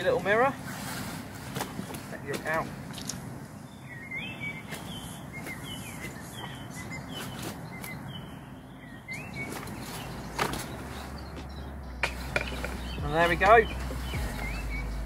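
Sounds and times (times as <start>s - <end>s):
low outdoor rumble: 0.0s - 15.0s
small bird chirping: 2.9s - 15.0s.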